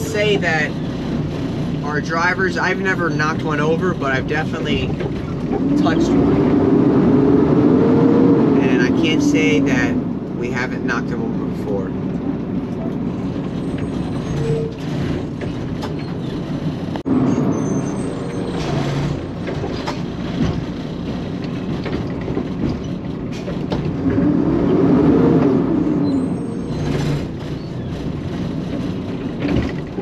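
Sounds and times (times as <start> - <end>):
diesel truck engine running: 0.0 - 30.0.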